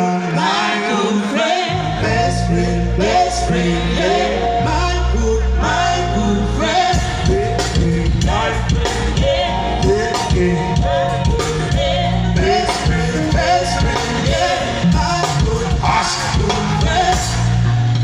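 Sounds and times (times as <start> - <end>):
amplified band music: 0.0 - 18.0
person singing: 0.0 - 18.0.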